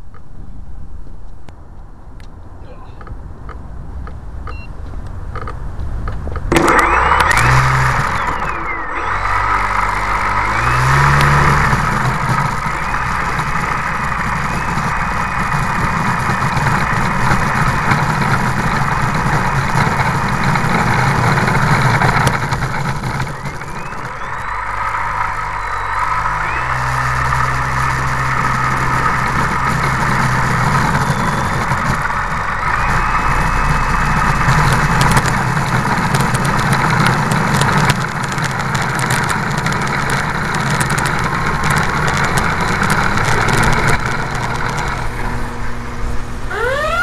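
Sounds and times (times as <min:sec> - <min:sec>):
wheels ticking and rattling: 0:00.0 - 0:47.0
wind: 0:00.0 - 0:47.0
model plane motor running: 0:06.5 - 0:47.0.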